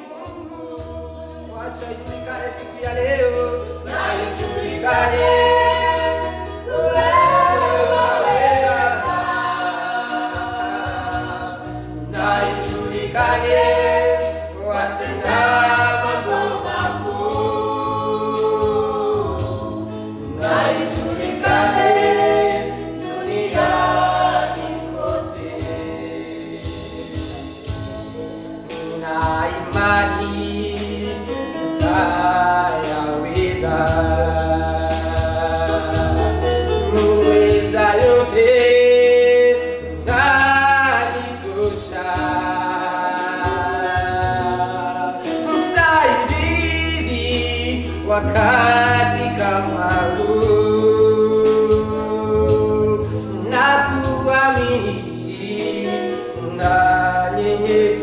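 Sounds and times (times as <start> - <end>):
choir singing gospel: 0.0 - 58.0
steady bass accompaniment: 0.1 - 58.0.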